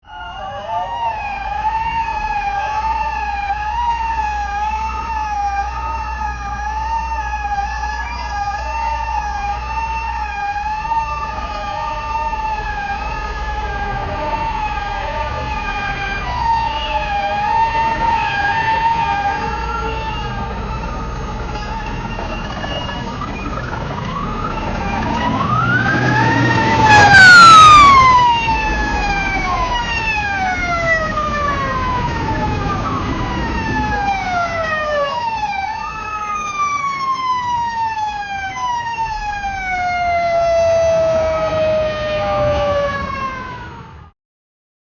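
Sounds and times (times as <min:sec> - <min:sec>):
fire truck siren wailing: 0:00.0 - 0:44.1.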